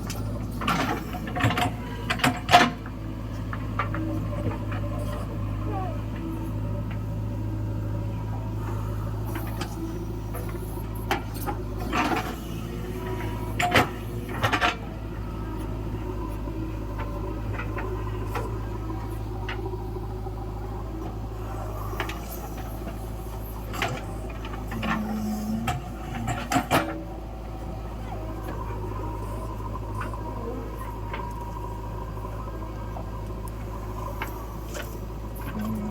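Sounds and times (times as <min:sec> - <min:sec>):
heavy machinery engine humming: 0:00.0 - 0:35.9.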